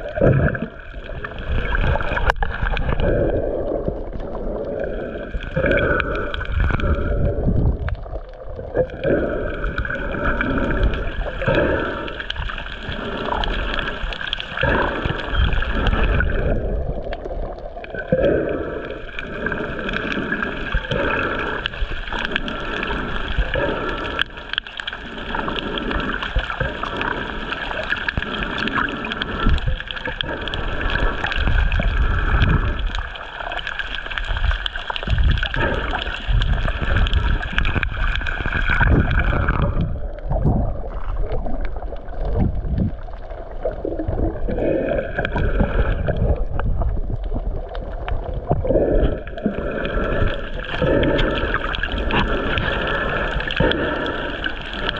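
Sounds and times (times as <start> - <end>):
muffled underwater water rushing: 0.0 - 54.9.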